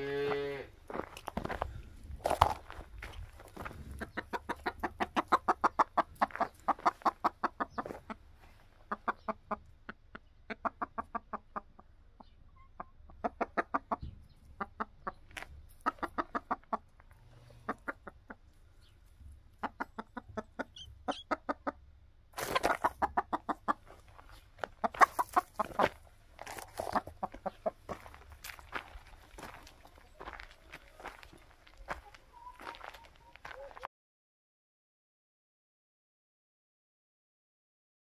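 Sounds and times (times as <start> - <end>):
hens clucking: 0.0 - 33.9.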